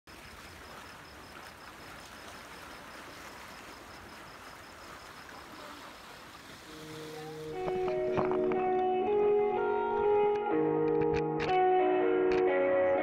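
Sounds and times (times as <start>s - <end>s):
calm sea washing: 0.1s - 10.5s.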